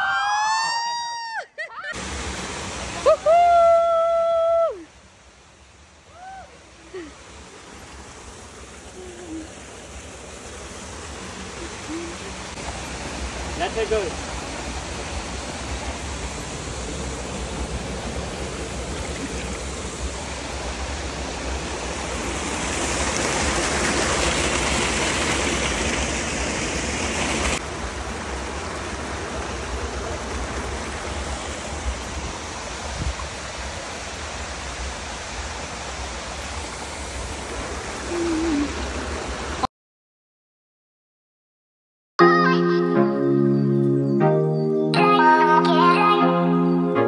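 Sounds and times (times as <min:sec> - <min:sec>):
stream rushing over rocks: 0:01.9 - 0:39.7.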